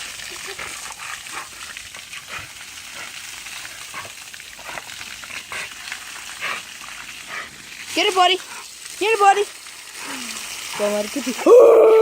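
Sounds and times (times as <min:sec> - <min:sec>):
spray spattering on ground: 0:00.0 - 0:12.0
water spraying: 0:00.0 - 0:12.0.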